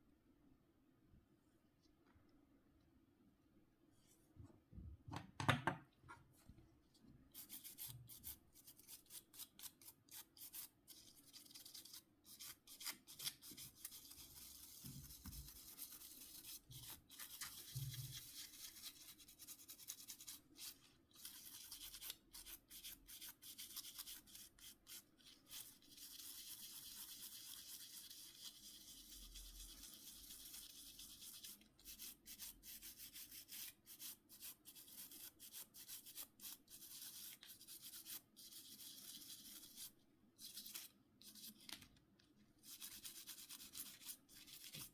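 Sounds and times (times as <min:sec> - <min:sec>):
brush scrubbing phone casing: 0:07.3 - 0:41.7, 0:42.6 - 0:44.9.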